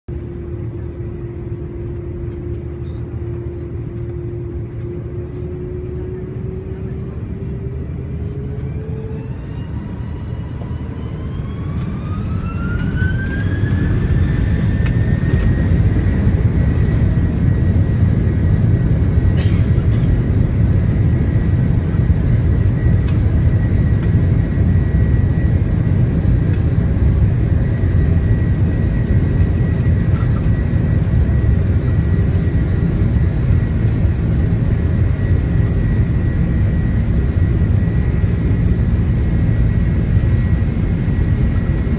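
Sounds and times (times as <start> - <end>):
jet engine low rumble: 0.1 - 41.9
jet engine whine: 0.1 - 41.9.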